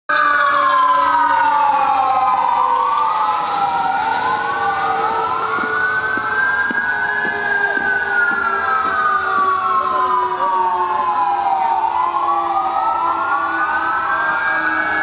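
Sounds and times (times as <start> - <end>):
siren-like wailing tones: 0.1 - 15.0.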